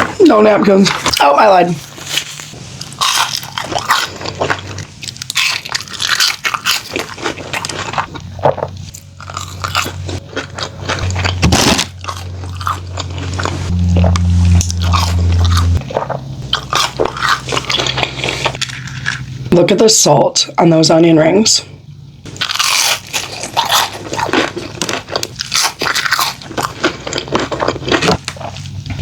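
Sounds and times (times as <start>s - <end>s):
crunchy biting and chewing: 0.9s - 19.4s, 22.3s - 29.0s.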